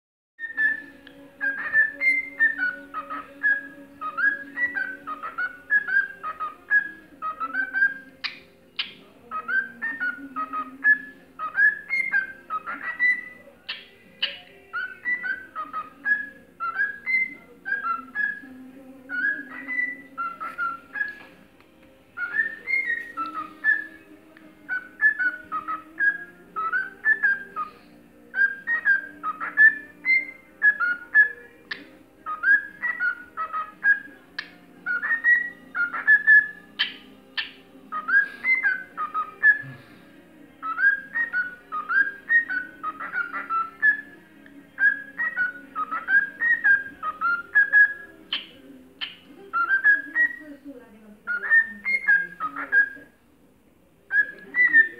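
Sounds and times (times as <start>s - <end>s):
cockatiel whistling: 0.4s - 18.5s, 19.1s - 21.2s, 22.2s - 24.1s, 24.7s - 39.8s, 40.6s - 50.4s, 51.3s - 53.2s, 54.1s - 54.9s.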